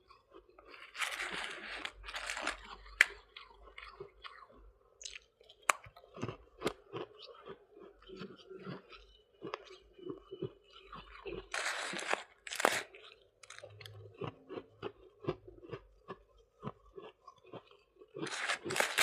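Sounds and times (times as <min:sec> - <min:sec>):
ice being crunched and chewed: 0:00.0 - 0:19.0.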